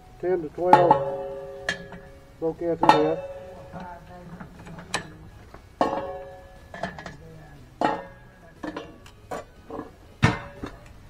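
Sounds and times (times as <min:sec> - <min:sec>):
charcoal clanking into metal drum: 0:00.0 - 0:11.0.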